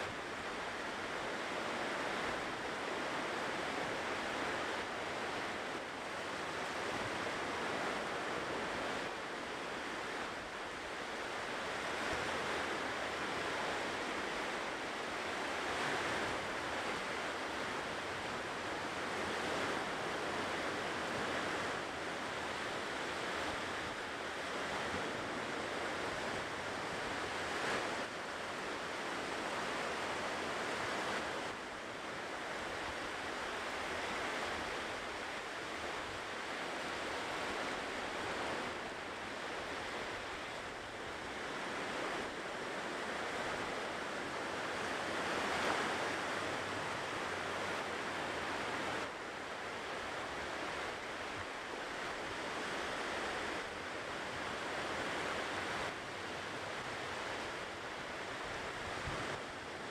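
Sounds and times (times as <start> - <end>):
ocean surf washing ashore: 0.0 - 59.9.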